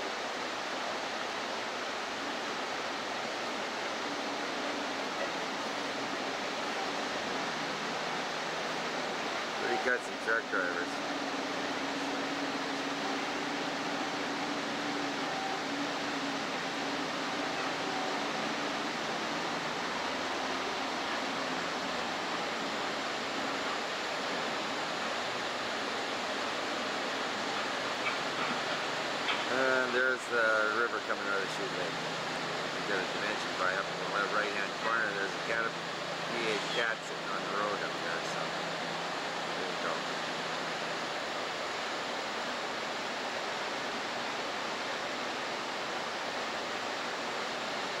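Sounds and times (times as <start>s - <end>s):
steady rushing noise: 0.0s - 48.0s.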